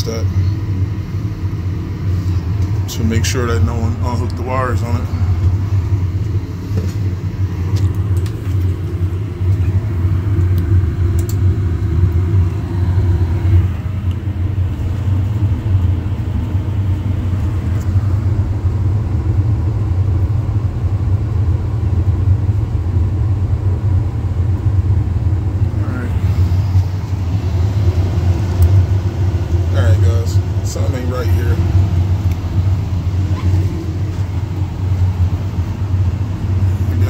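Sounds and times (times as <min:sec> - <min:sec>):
gas furnace rumbling: 0:00.0 - 0:37.0.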